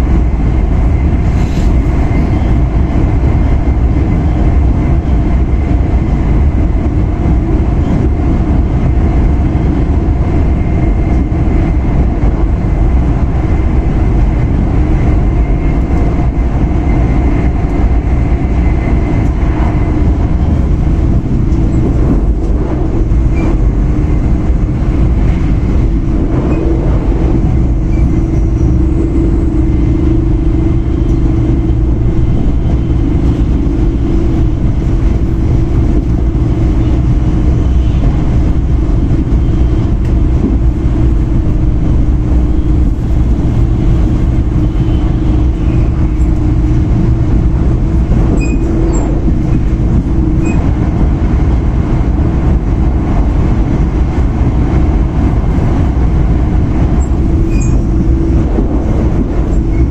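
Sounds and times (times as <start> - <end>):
train interior rumble and hum: 0.0 - 59.9.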